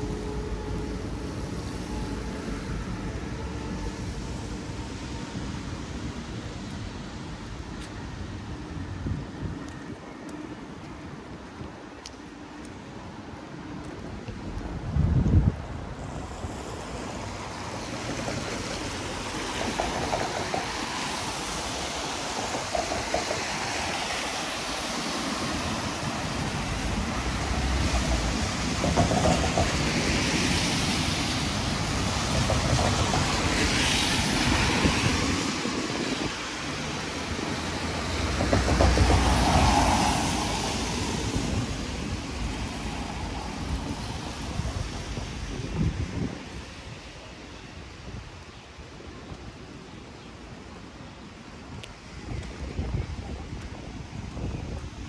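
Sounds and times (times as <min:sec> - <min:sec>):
vehicles passing on wet street: 0:00.0 - 0:55.0.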